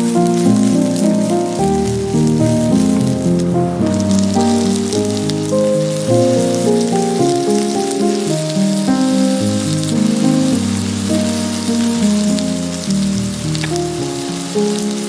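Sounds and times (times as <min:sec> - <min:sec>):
instrumental background music: 0:00.0 - 0:15.0
vegetables sizzling in oil: 0:00.0 - 0:15.0.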